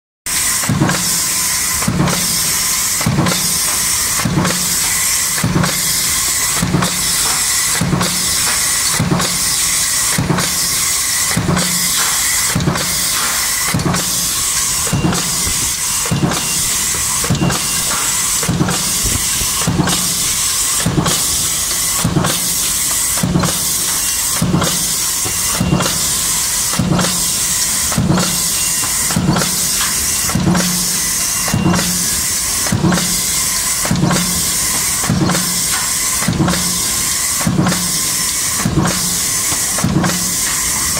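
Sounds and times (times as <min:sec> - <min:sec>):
press hum and hiss: 0:00.3 - 0:40.9.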